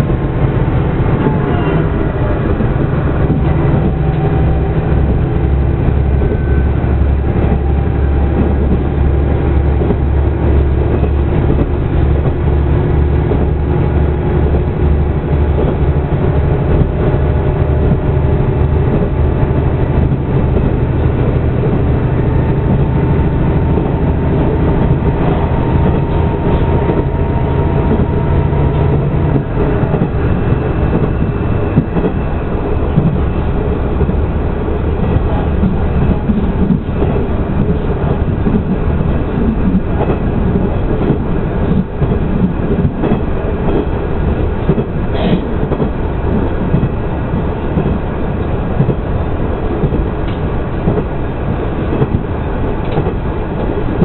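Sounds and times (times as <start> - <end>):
train running gear rumble: 0.0 - 54.0.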